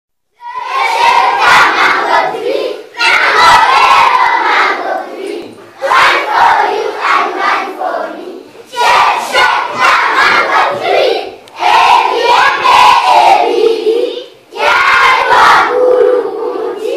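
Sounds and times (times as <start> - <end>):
children chanting: 0.4 - 16.9.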